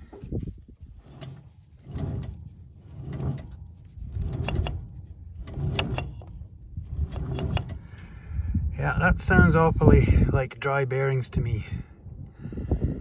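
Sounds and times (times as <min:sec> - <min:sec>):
sprocket bearing rough rumble: 0:00.0 - 0:10.6.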